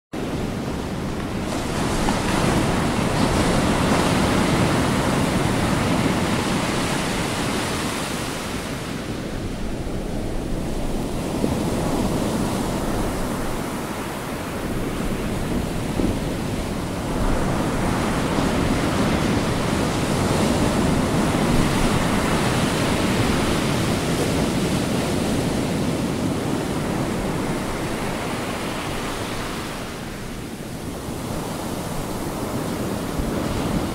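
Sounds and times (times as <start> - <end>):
waves breaking: 0.2 - 33.9.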